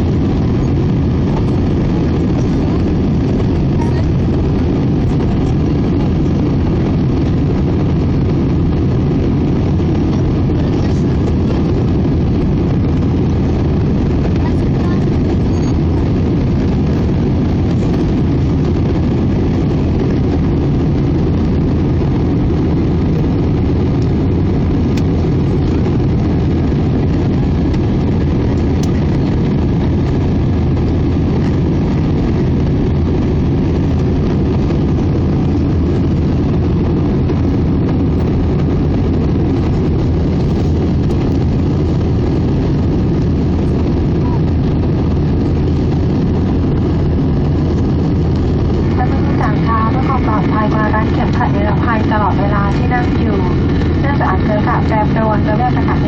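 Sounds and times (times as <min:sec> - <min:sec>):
airliner cabin jet drone: 0:00.0 - 0:56.0.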